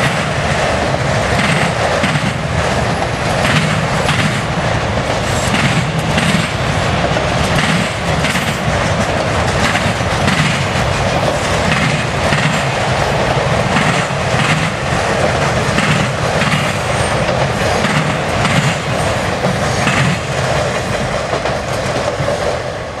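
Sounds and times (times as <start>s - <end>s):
wheels clacking over rail joints: 0.0s - 22.7s
train wheels rumbling on rails: 0.0s - 23.0s.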